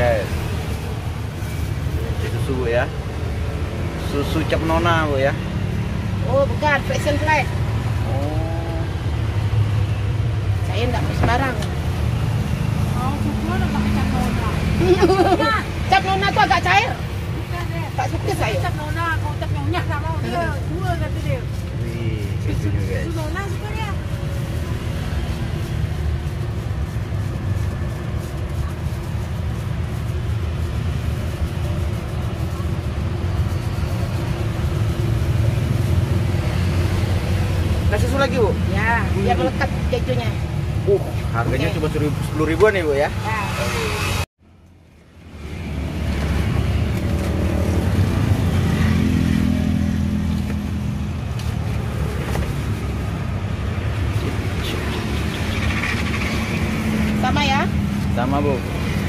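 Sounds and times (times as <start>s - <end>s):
street noise rumble: 0.0s - 59.0s.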